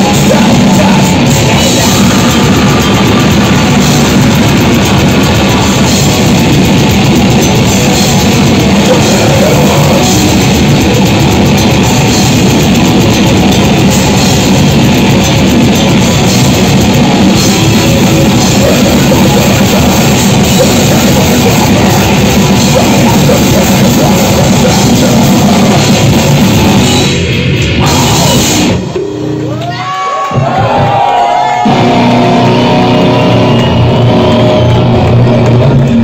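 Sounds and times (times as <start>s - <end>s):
grindcore band playing live: 0.0s - 36.0s
guitar feedback whining: 0.0s - 36.0s.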